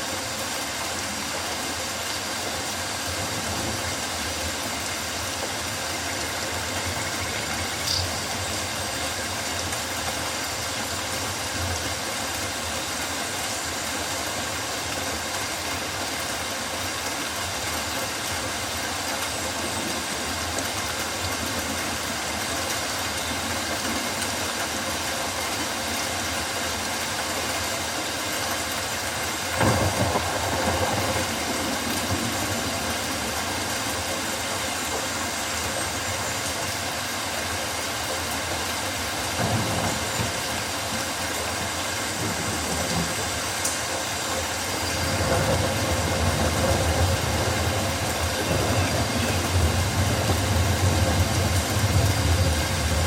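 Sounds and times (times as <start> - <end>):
rain hiss: 0.0 - 53.0.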